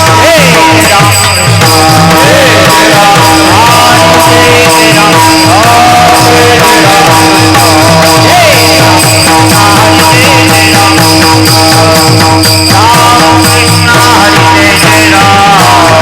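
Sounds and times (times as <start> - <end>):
fast drum rhythm: 0.0 - 16.0.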